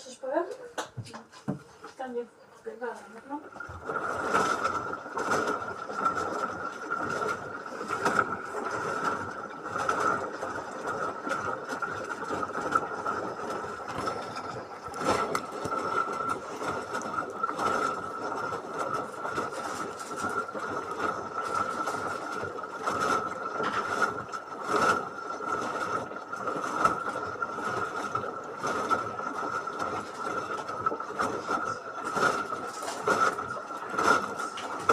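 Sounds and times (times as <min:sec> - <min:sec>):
washing machine high whine: 0:00.0 - 0:34.9.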